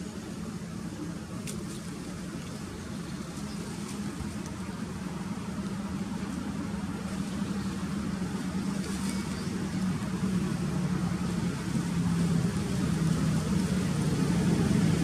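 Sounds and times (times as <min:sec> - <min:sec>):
engine low hum: 0:00.0 - 0:15.0.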